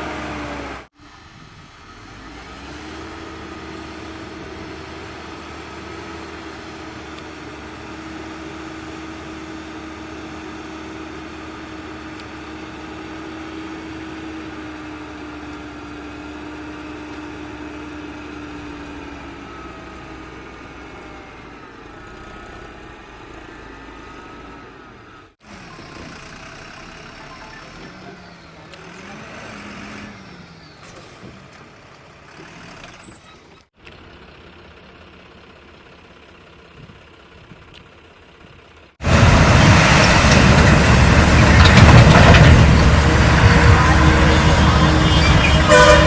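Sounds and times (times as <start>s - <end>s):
heavy machinery diesel engines revving: 0.0s - 34.5s, 38.8s - 46.0s.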